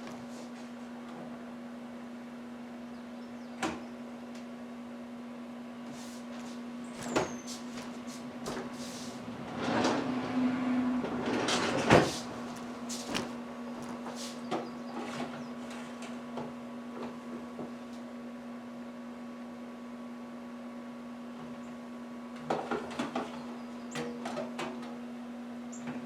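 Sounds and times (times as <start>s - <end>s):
air fryer humming: 0.0s - 26.0s.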